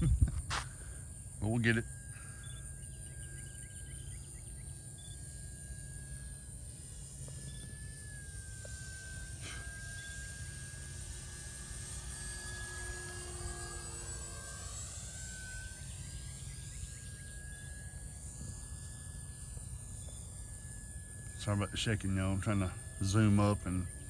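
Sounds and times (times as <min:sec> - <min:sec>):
cricket trill: 0:00.0 - 0:24.0
model plane motor droning: 0:00.0 - 0:24.0.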